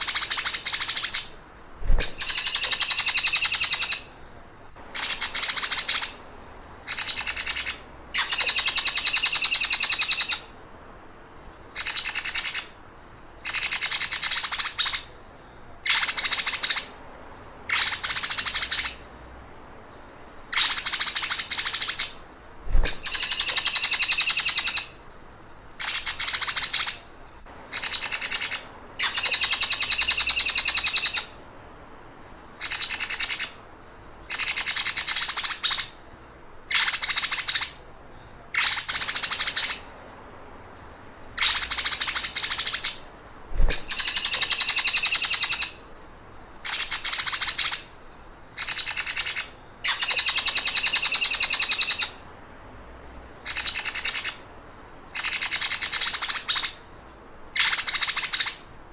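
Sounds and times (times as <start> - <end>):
songbird rattling trills: 0.0 - 10.6, 11.5 - 19.2, 20.0 - 31.4, 32.3 - 37.8, 38.5 - 40.0, 40.8 - 52.2, 53.3 - 54.5.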